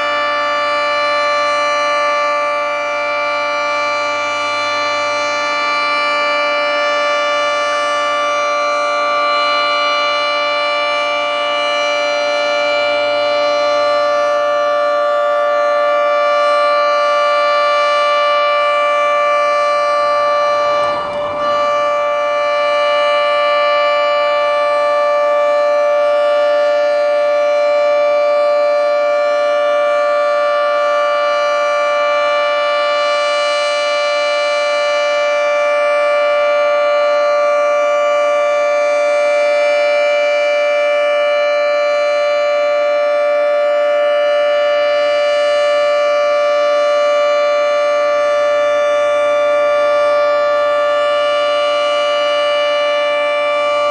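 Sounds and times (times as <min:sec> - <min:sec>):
warning siren three-tone chord: 0:00.0 - 0:53.9.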